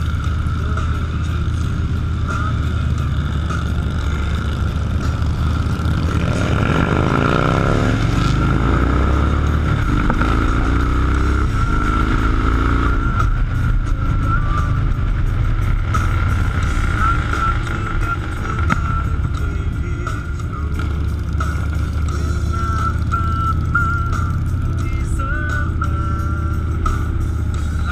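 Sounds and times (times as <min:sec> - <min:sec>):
motorcycle engines revving: 0:00.0 - 0:27.9.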